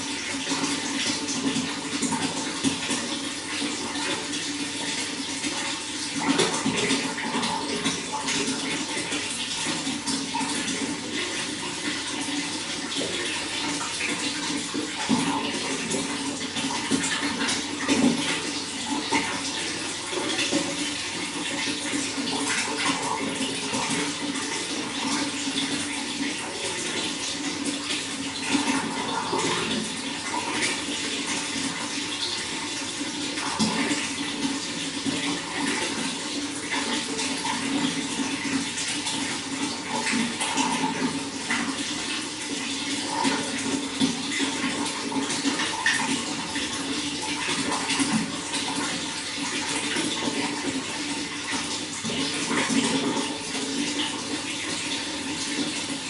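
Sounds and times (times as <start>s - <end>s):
running water with gurgles: 0.0s - 56.0s.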